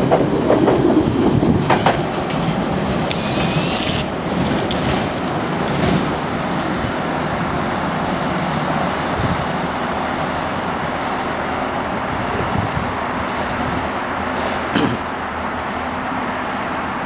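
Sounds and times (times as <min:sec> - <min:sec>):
train running on track: 0:00.0 - 0:17.0
road traffic: 0:01.9 - 0:17.0.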